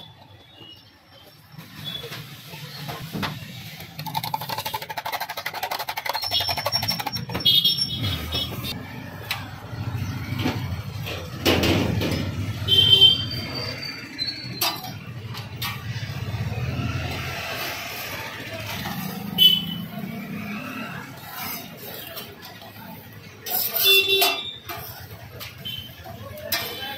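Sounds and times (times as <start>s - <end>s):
traffic hum: 0.0s - 26.9s.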